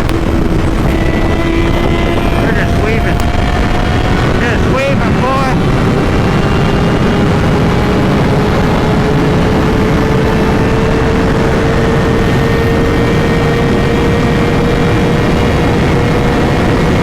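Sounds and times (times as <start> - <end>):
motorcycle engine at high revs: 0.0 - 17.0
wind rush: 0.0 - 17.0.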